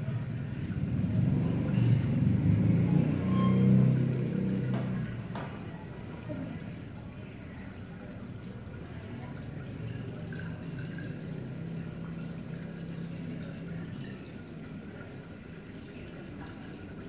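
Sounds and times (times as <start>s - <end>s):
water trickling through pipes: 0.0s - 17.0s.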